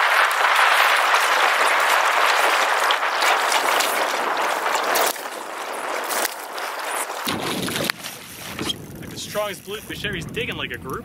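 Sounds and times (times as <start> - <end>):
water lapping against boat hull: 0.0 - 10.6.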